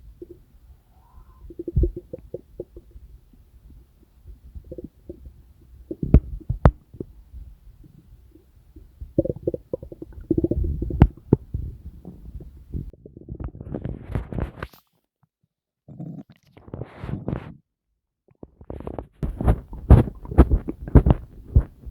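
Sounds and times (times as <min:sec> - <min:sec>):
stomach gurgling: 0:00.0 - 0:14.8, 0:15.9 - 0:17.6, 0:18.4 - 0:21.9.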